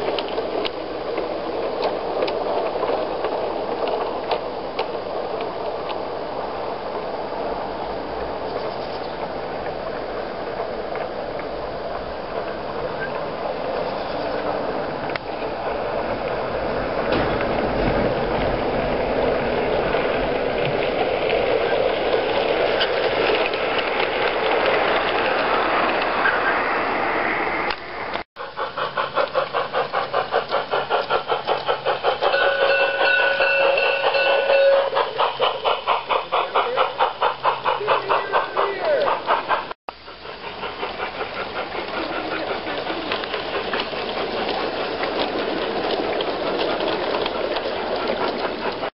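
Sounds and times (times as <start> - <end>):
clicking over rail joints: 0.0 - 6.1, 8.4 - 26.5, 27.7 - 48.9
model locomotive whirring and clattering: 0.0 - 26.8, 27.6 - 48.9.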